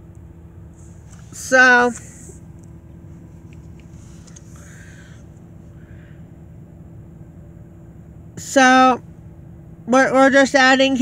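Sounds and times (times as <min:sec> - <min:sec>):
car engine idling: 0:00.0 - 0:11.0
faint hum: 0:00.0 - 0:11.0.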